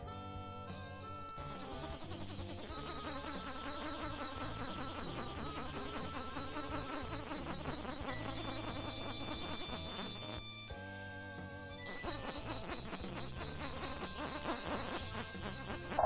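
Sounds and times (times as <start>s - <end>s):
insects droning: 1.3s - 10.4s, 11.9s - 16.0s.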